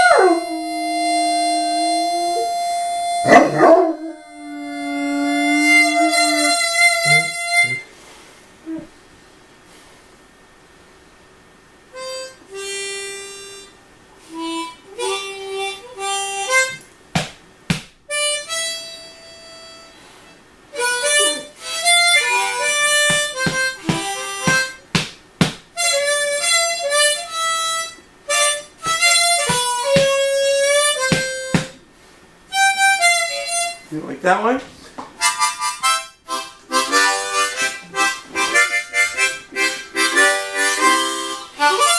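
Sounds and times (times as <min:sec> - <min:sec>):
bluesy harmonica phrases: 0:00.0 - 0:08.9, 0:11.9 - 0:16.9, 0:18.1 - 0:25.0, 0:25.8 - 0:31.8, 0:32.5 - 0:34.3, 0:35.2 - 0:41.9.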